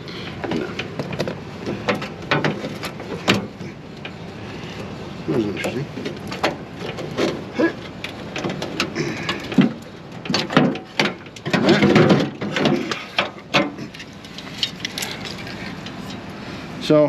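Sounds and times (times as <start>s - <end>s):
metal parts clattering and rattling: 0.4s - 4.2s, 5.6s - 16.3s.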